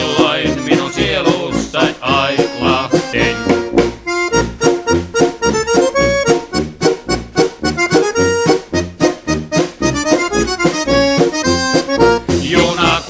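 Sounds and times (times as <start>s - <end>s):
accordion melody over steady beat: 0.0s - 13.0s.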